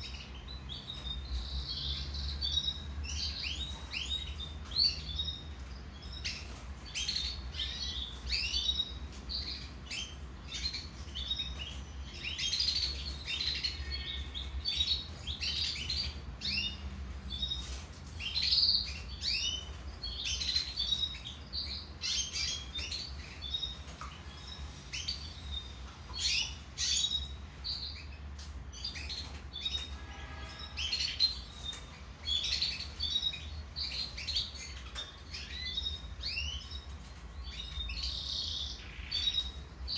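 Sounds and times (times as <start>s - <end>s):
canary singing with trills: 0.0s - 39.9s.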